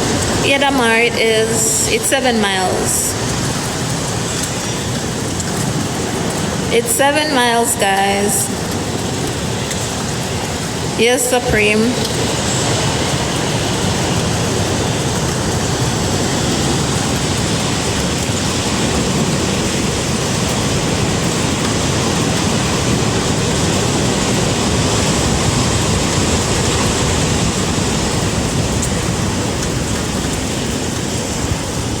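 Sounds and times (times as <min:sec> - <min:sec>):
hurricane wind and rain: 0:00.0 - 0:32.0.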